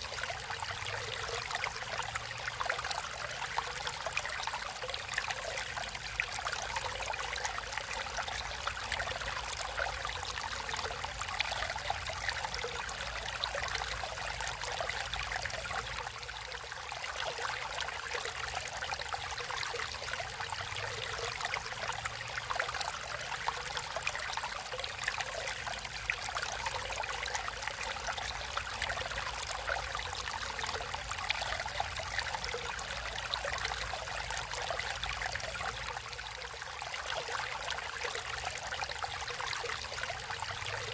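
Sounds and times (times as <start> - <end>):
water trickling in a stream: 0.0 - 40.9.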